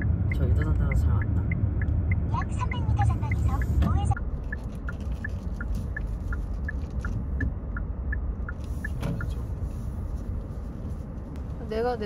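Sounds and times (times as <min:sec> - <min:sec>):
turn signal ticking: 0:00.0 - 0:09.7
low rumble of moving car: 0:00.0 - 0:12.0.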